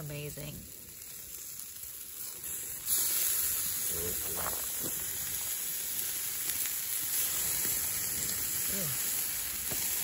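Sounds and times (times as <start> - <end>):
steaks sizzling on a grate: 0.0 - 10.0.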